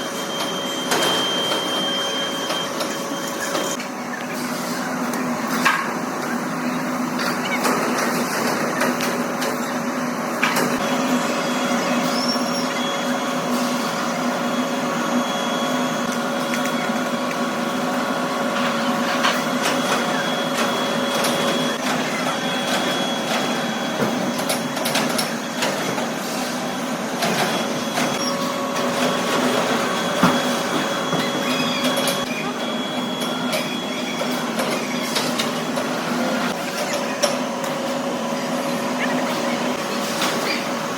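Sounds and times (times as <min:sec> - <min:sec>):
workshop machinery humming: 0:00.0 - 0:40.9.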